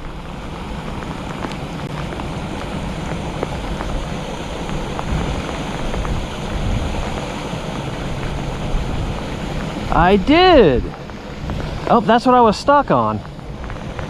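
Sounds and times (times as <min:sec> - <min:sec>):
raindrops ticking close by: 0:00.0 - 0:14.0
steady rain falling: 0:00.0 - 0:14.0
wind rumble on microphone: 0:00.0 - 0:14.0.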